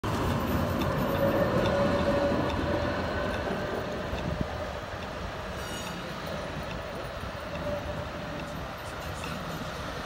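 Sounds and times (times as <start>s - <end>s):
electric tram rumble and whine: 0.0s - 10.0s.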